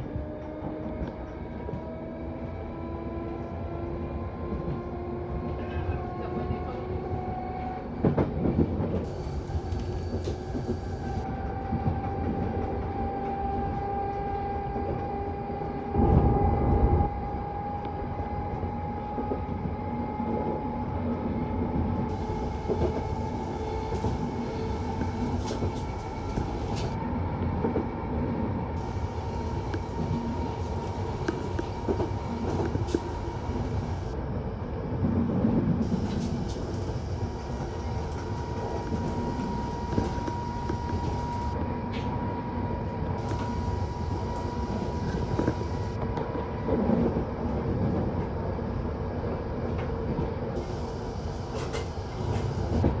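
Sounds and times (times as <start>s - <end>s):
train rumbling on board: 0.0s - 53.0s.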